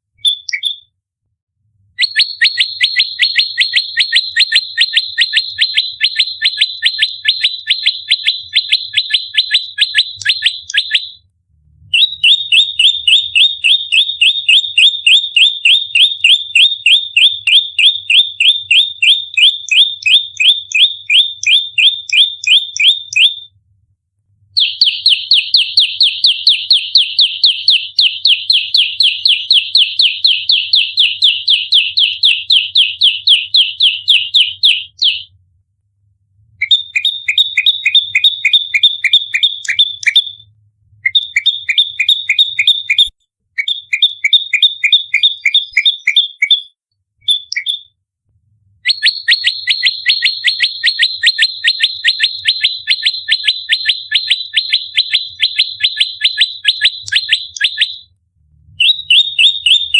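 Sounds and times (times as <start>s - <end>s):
songbird rapid high chirps: 0.2s - 0.9s, 2.0s - 11.2s, 11.9s - 23.4s, 24.6s - 35.3s, 36.6s - 40.4s, 41.1s - 48.0s, 48.9s - 58.1s, 58.8s - 59.9s.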